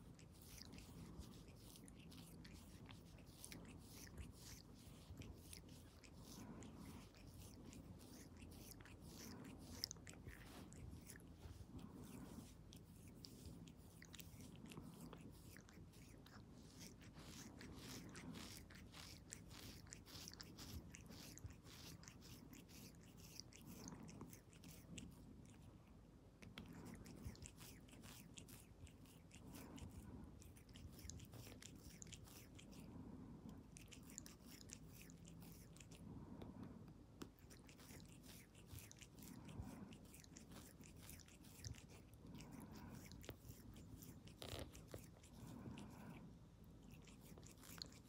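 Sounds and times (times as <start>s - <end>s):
cat licking paw: 0.0s - 48.0s.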